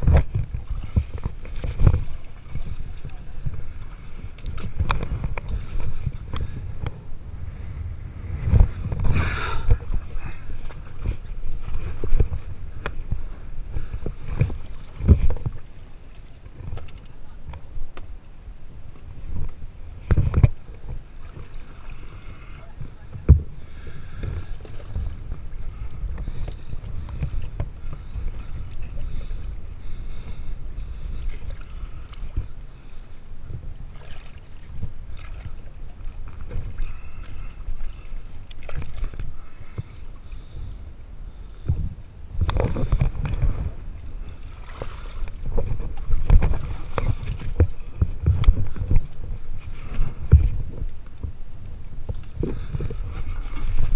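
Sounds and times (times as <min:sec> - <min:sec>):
water sloshing and splashing: 0:00.0 - 0:07.7, 0:08.3 - 0:18.2, 0:18.9 - 0:40.7, 0:41.3 - 0:53.9.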